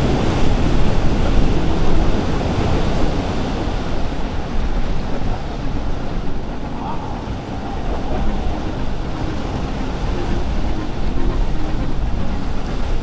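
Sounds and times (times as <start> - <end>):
boat engine: 0.0 - 13.0
wake rushing: 0.0 - 13.0
wind on microphone: 0.0 - 13.0.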